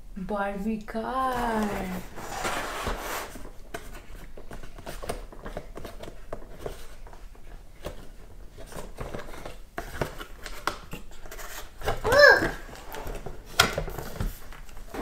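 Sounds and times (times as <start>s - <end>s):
cardboard packaging rustling: 1.2s - 15.0s.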